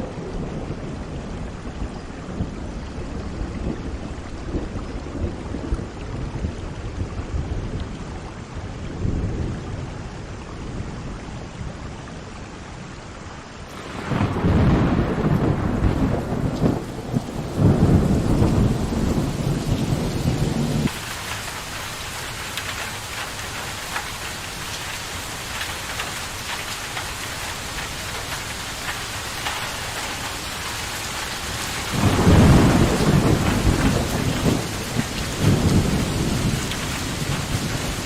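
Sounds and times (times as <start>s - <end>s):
low thunder rumble: 0.0s - 7.9s, 13.7s - 24.2s, 25.6s - 38.0s
steady rain falling: 0.0s - 38.0s.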